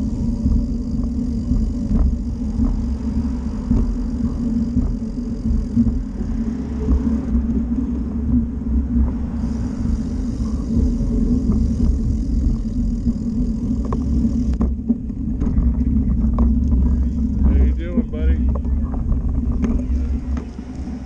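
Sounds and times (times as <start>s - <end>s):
small vehicle rumbling: 0.0s - 21.0s.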